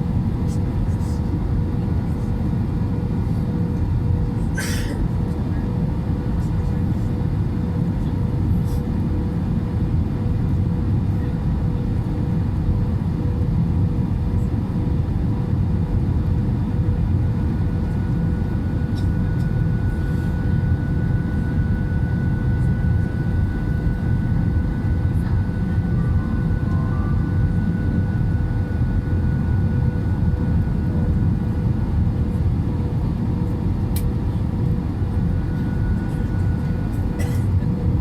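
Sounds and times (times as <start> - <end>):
airplane engines droning: 0.0 - 38.0.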